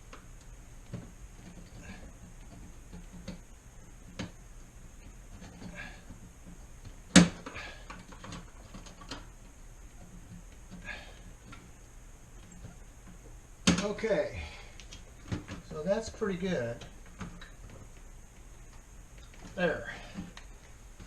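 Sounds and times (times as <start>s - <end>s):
light clicks and knocks of plastic parts: 0.0s - 14.1s, 14.7s - 21.0s.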